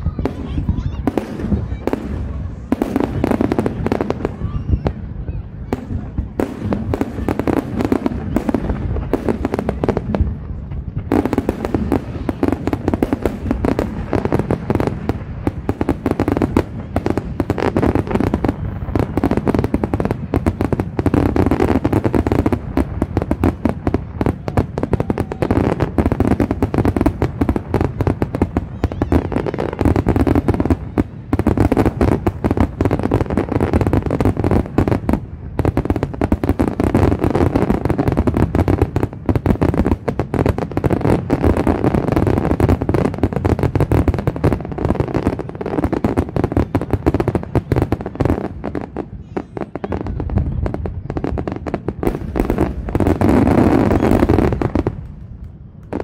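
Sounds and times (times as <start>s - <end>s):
fireworks banging: 0.0s - 56.0s.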